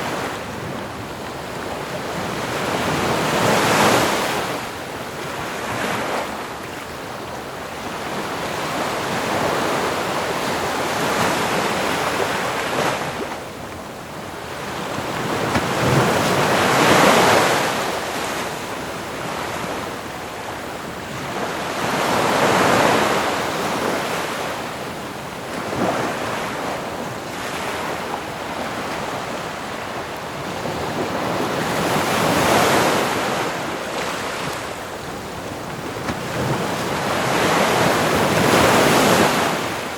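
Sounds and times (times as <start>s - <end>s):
ocean waves breaking: 7.7s - 39.9s.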